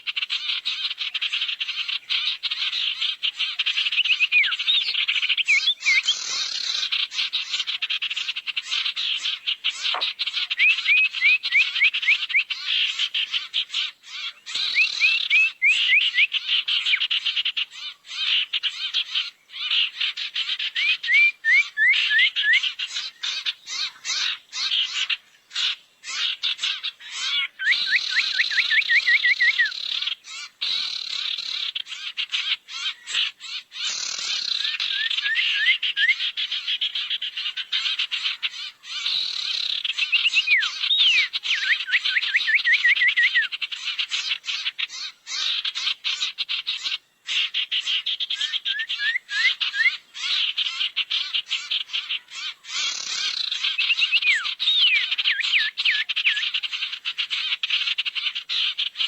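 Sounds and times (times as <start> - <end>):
chatter of small birds: 0.0 - 59.0
rapid clicking bird calls: 0.0 - 59.0.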